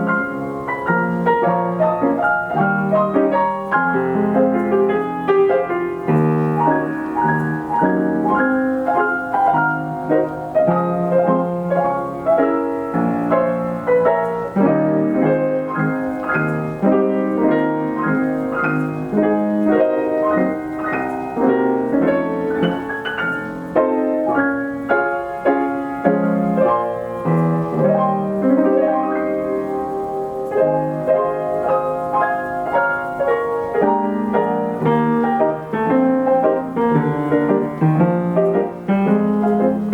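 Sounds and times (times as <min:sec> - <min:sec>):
player piano playing dance songs: 0:00.0 - 0:39.9.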